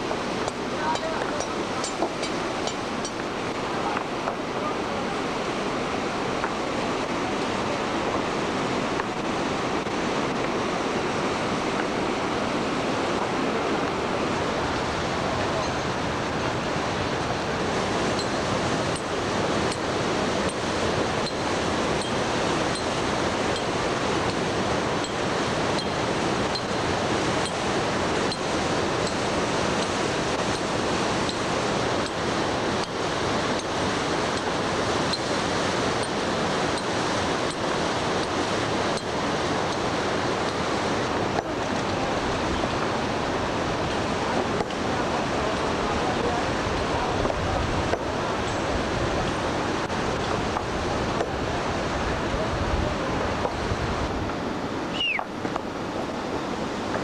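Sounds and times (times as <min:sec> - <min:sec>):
rushing mountain stream: 0:00.0 - 0:57.0.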